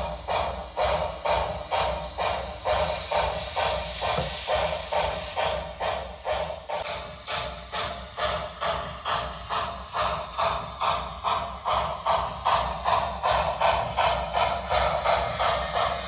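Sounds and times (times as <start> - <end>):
model train steam chuffs: 0.0 - 16.0.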